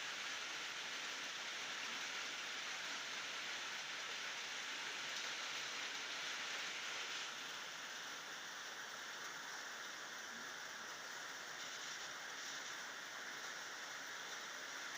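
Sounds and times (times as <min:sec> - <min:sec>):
rain falling: 0:00.0 - 0:14.9.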